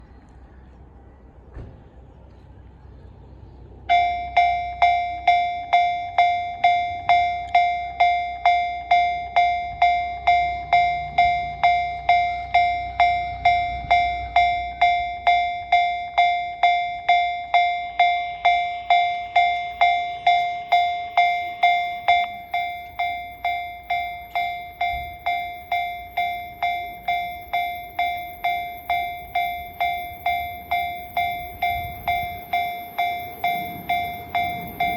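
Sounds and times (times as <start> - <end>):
level crossing warning bell: 3.8 - 34.9.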